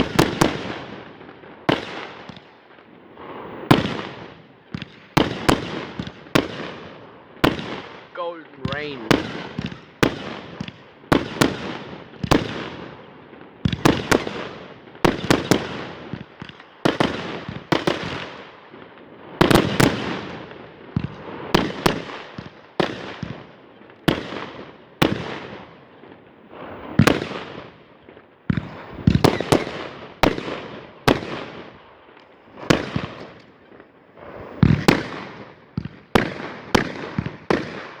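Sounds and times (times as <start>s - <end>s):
fireworks bangs with echo: 0.0s - 38.0s.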